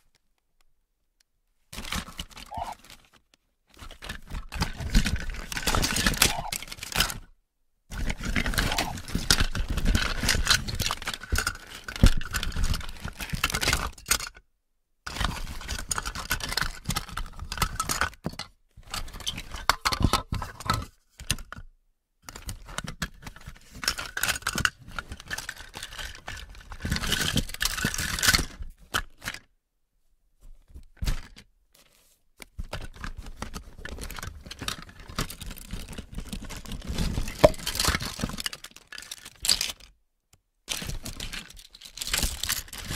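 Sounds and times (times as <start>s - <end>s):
plastic toys rattling in a box: 1.7s - 7.3s, 7.9s - 14.4s, 15.1s - 21.6s, 22.2s - 29.5s, 32.4s - 40.0s, 40.7s - 42.9s.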